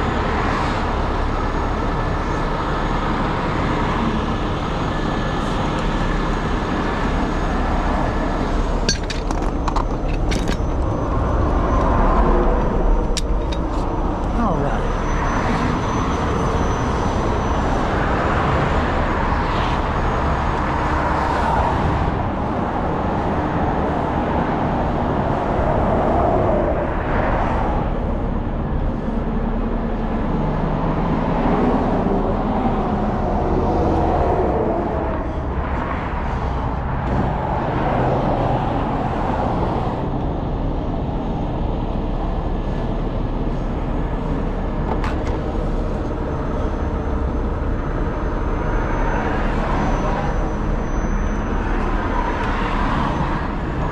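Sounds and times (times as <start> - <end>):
diesel truck engine running: 0.0 - 25.6, 27.9 - 53.9.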